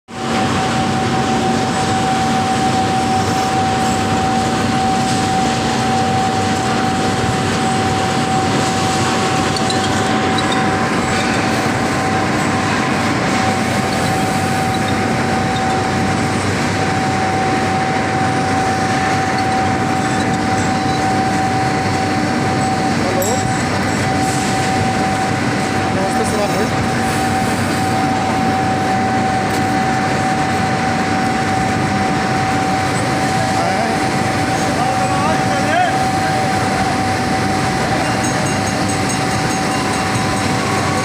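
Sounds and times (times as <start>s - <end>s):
machinery high whine: 0.1s - 41.0s.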